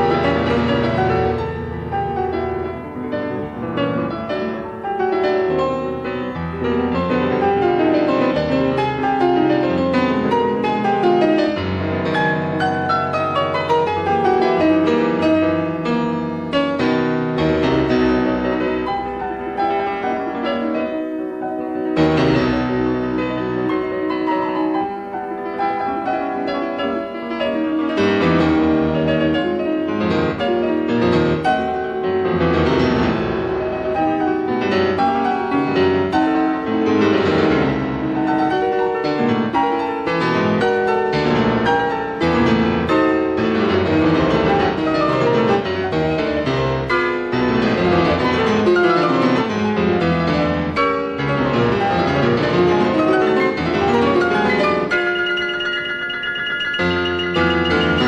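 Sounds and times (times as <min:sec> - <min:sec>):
solo classical piano: 0:00.0 - 0:58.0.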